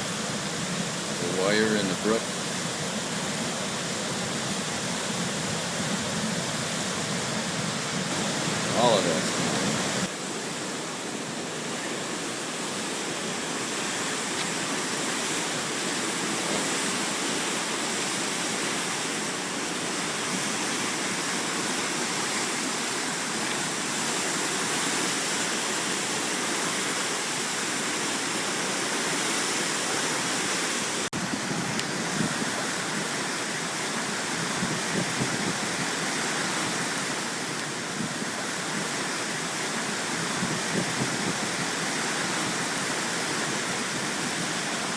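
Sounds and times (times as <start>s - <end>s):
floodwater rushing in a brook: 0.0s - 44.9s.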